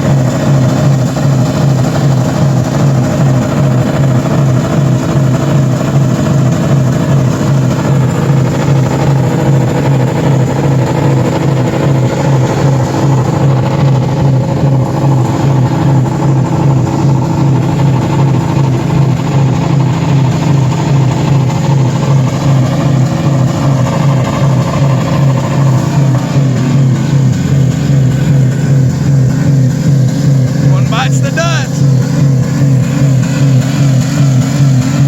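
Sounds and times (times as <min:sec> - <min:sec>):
car engines pulsing drone: 0:00.0 - 0:35.0.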